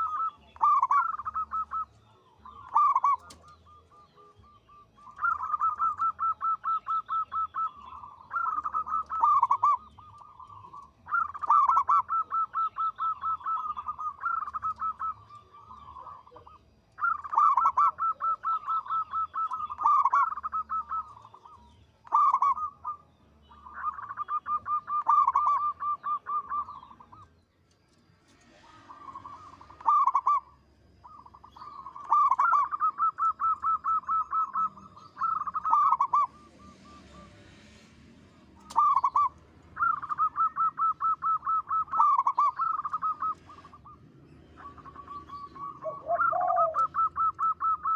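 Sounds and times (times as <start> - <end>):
dove cooing: 0.0 - 27.3, 28.5 - 47.9.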